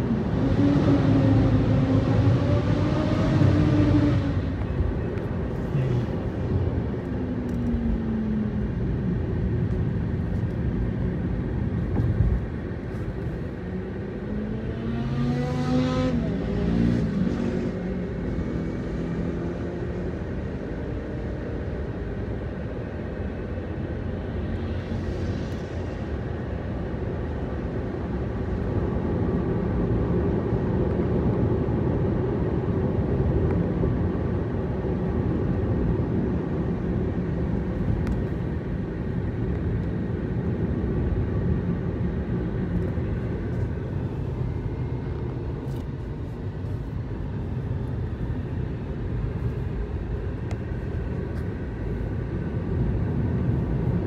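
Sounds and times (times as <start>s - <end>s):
car engine rumble: 0.0s - 54.0s
tyres on road: 0.0s - 54.0s.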